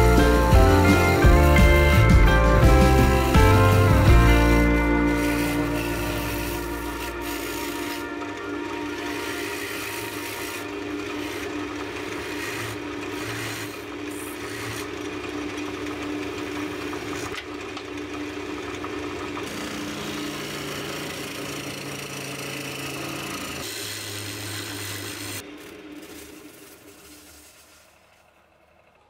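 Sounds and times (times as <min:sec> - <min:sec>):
lathe motor humming: 0:00.0 - 0:28.9
turning gouge scraping wood: 0:02.9 - 0:17.5, 0:19.4 - 0:28.4.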